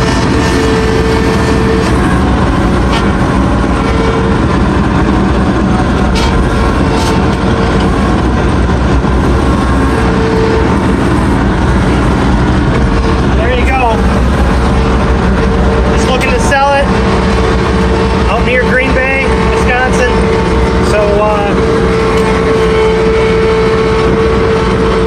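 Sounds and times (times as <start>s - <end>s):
mower diesel engine running: 0.0s - 25.0s
steady whine: 0.0s - 25.0s.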